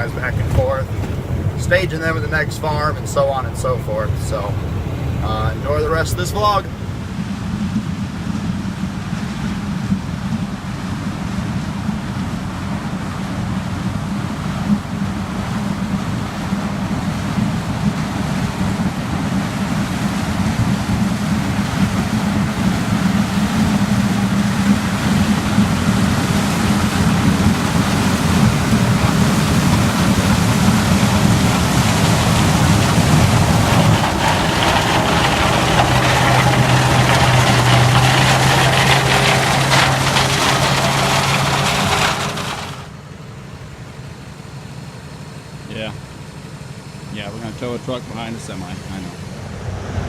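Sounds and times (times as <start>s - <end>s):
diesel engine running: 0.0s - 50.0s
deep steady drone: 6.6s - 50.0s.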